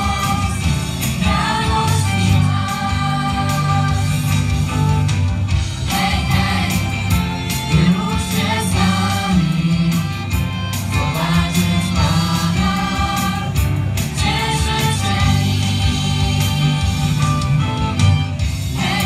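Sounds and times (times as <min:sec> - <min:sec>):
bass line: 0:00.0 - 0:19.0
choir singing with band: 0:00.0 - 0:19.0.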